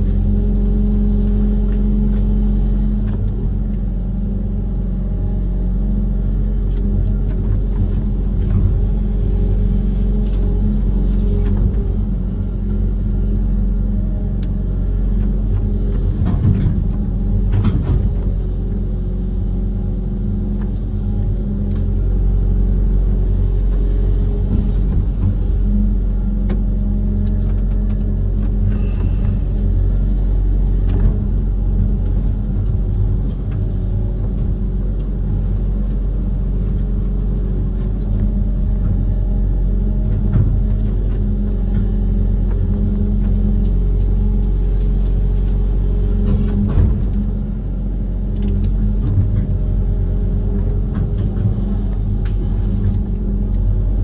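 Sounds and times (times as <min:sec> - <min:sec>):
diesel excavator engine rumbling: 0:00.0 - 0:54.0.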